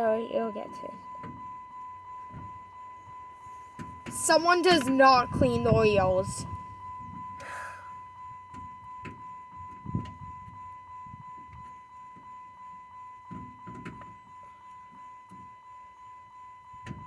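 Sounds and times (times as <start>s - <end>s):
steady high-pitched tone: 0.0s - 17.0s.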